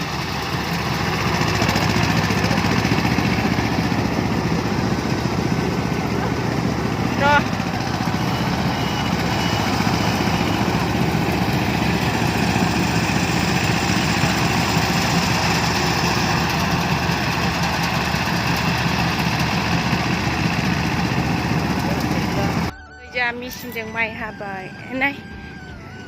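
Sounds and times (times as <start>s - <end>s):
tractor engine chugging: 0.0s - 26.0s.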